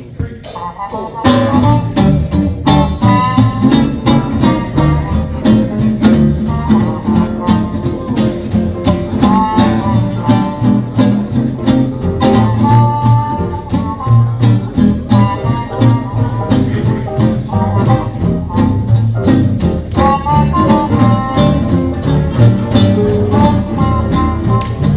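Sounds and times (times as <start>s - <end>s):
swing band playing: 0.0s - 24.9s.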